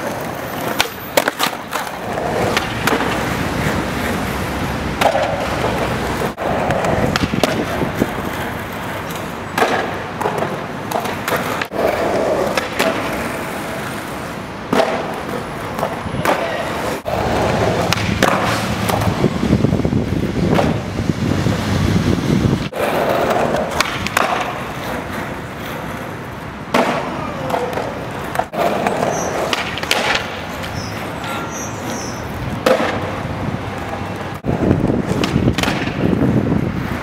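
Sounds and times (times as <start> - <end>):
skateboard clacking: 0.0 - 21.4, 22.5 - 37.0
skateboard wheels rolling on concrete: 0.0 - 37.0.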